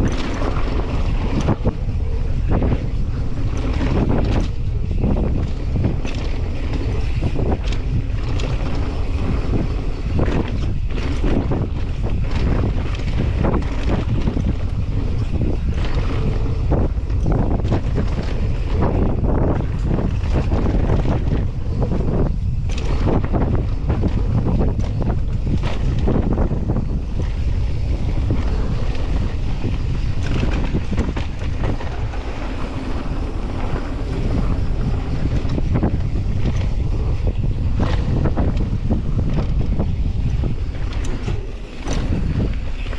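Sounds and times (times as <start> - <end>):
bike tyres crunching on gravel: 0.0 - 42.9
wind buffeting microphone: 0.0 - 42.9.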